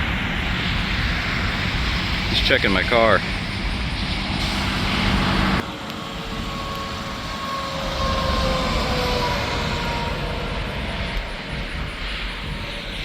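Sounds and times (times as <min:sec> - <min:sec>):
highway traffic noise: 0:00.0 - 0:13.0
passing vehicle whine: 0:00.0 - 0:13.0.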